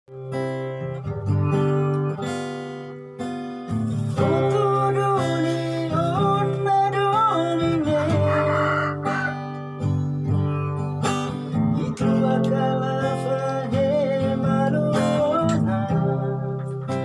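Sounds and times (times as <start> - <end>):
acoustic guitar strumming chords: 0.1 - 17.0.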